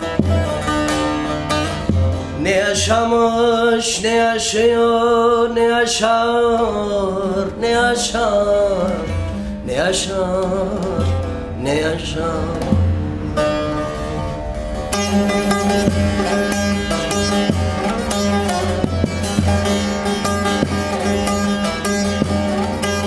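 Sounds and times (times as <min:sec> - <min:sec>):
long-necked lute playing: 0:00.0 - 0:23.0
man singing folk song: 0:02.2 - 0:14.3, 0:15.0 - 0:23.0.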